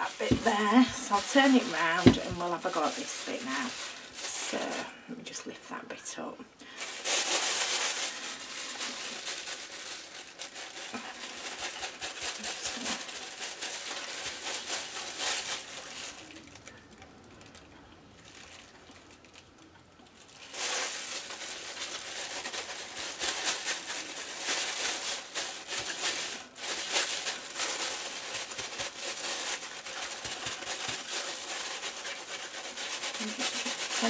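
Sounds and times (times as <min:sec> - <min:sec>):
plastic bag crinkling: 0:00.0 - 0:05.0, 0:06.7 - 0:34.0.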